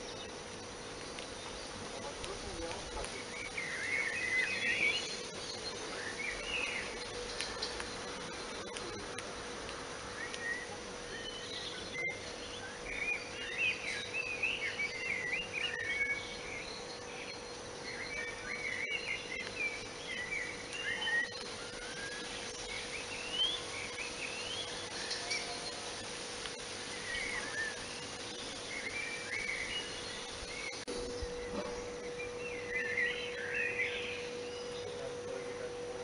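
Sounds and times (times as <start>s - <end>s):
faint steady hum: 0.0s - 36.0s
outdoor background noise: 0.0s - 36.0s
small birds chirping: 0.0s - 36.0s.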